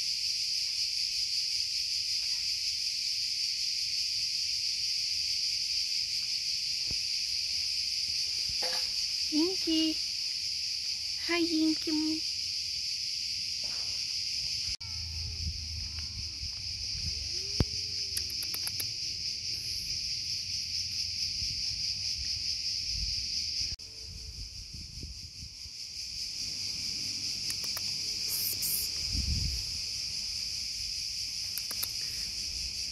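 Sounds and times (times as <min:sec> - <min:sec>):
insect chorus drone: 0:00.0 - 0:32.9.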